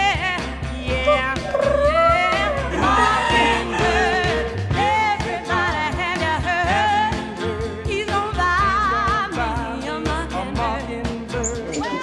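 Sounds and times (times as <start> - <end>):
song with singing voice: 0.6 - 12.0.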